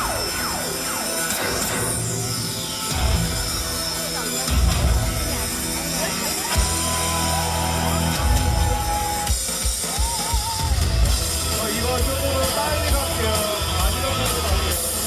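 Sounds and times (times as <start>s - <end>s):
drum kit beat: 0.0s - 15.0s
live band music: 0.0s - 15.0s.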